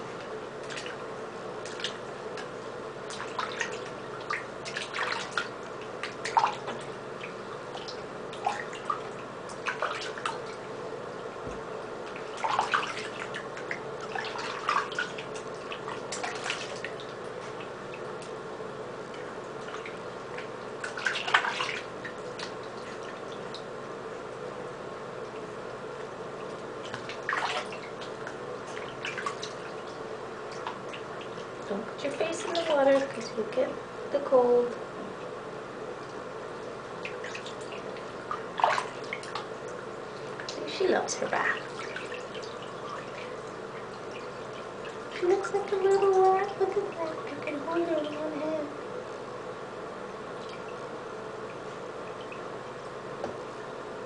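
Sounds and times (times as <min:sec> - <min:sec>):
steady low hum: 0:00.0 - 0:54.0
water splashing in a sink: 0:00.1 - 0:18.4, 0:19.0 - 0:24.4, 0:25.2 - 0:33.8, 0:35.9 - 0:48.8, 0:50.2 - 0:54.0.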